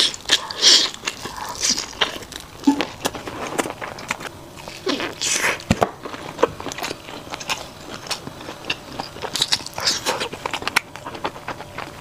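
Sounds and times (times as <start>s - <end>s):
biting and chewing food: 0.0s - 12.0s.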